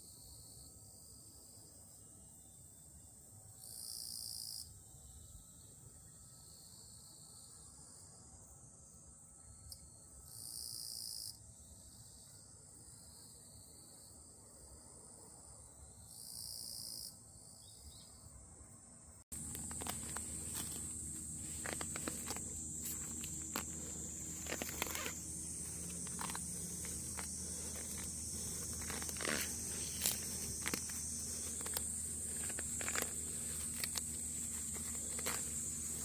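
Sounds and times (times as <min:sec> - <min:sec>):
crickets chirping: 0:00.0 - 0:36.0
insect buzz: 0:00.0 - 0:36.0.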